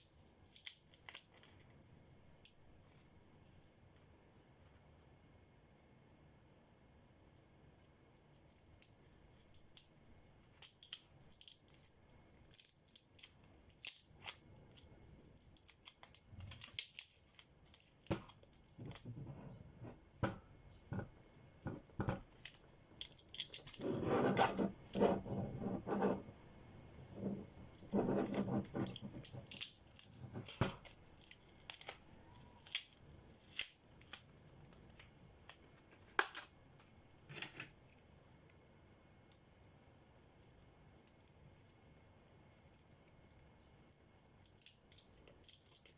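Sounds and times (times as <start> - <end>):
small clicks and scrapes: 0.0 - 38.1.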